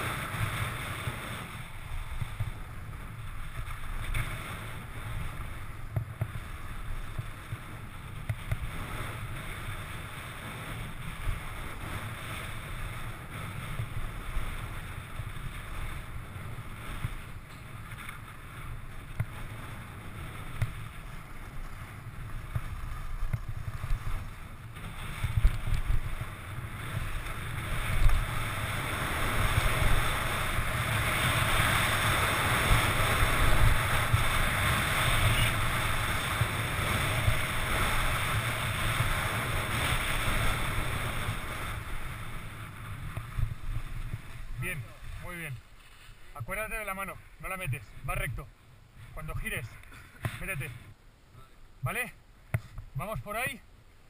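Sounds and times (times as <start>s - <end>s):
skis scraping over snow: 0.0s - 50.9s
wind rushing over microphone: 0.0s - 51.0s.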